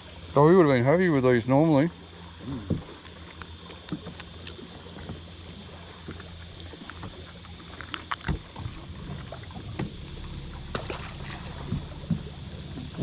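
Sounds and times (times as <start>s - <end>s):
boat motor hum: 0.0s - 13.0s.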